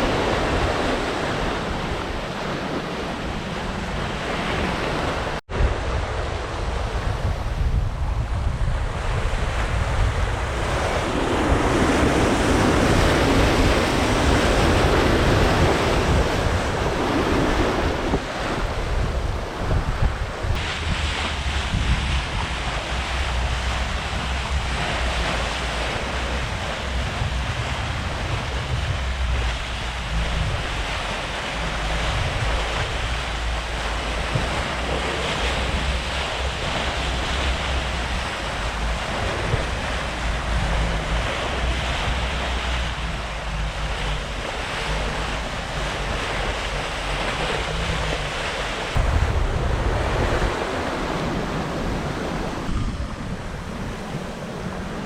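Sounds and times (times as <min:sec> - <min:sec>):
waves and rushing water: 0:00.0 - 0:55.0
wind buffeting microphone: 0:00.0 - 0:55.0.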